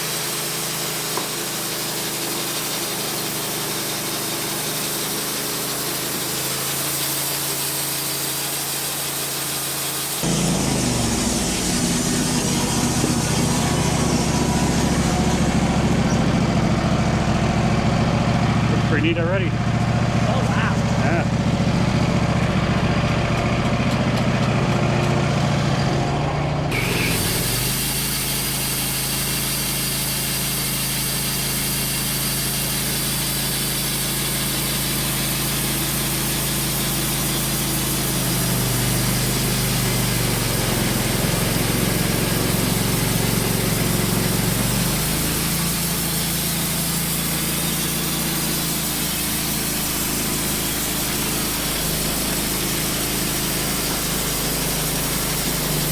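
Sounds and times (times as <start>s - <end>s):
band saw blade cutting log: 0.0s - 55.9s
sawmill engine running: 0.0s - 55.9s.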